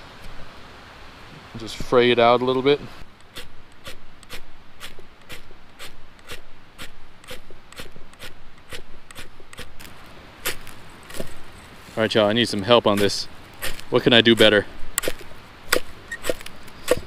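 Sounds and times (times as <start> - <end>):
fire-starter rod scraped: 3.3 - 17.0.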